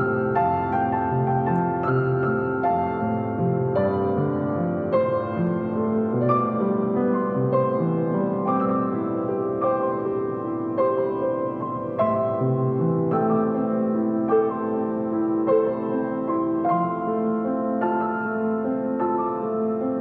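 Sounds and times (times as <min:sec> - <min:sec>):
soft slow piano piece: 0:00.0 - 0:20.0.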